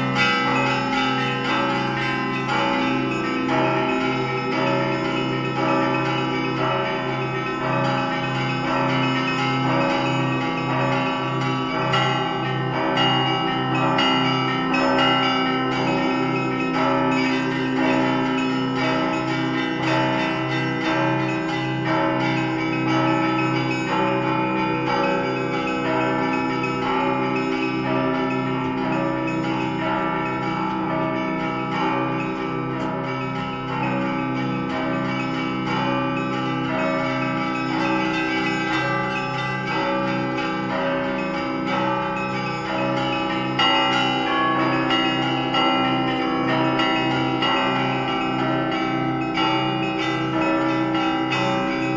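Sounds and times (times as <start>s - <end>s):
low church bells struck: 0.0s - 51.9s
small bells chiming: 0.0s - 51.9s.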